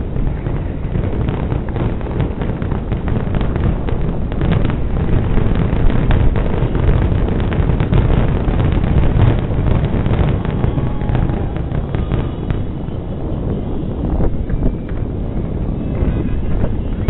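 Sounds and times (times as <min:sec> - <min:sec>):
deep continuous rumble: 0:00.0 - 0:17.0
fireworks bangs and crackles: 0:00.0 - 0:17.0.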